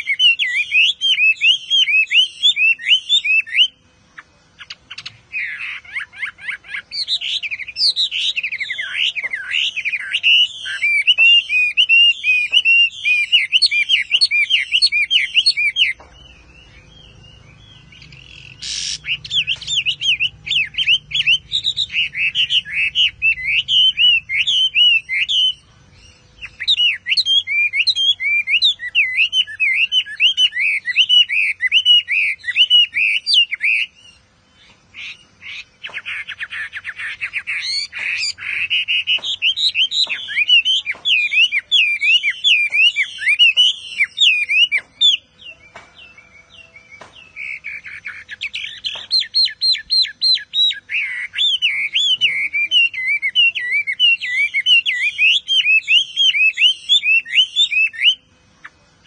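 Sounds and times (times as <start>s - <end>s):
bird singing whistled phrases: 0.0s - 58.8s
harsh buzzy bird trills: 0.0s - 59.0s.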